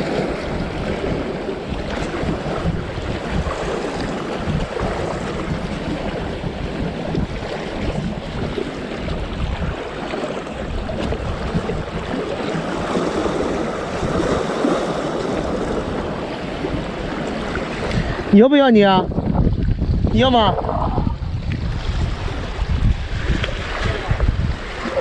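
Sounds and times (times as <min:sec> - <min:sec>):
waves washing against shore: 0:00.0 - 0:25.0
wind buffeting microphone: 0:00.0 - 0:25.0.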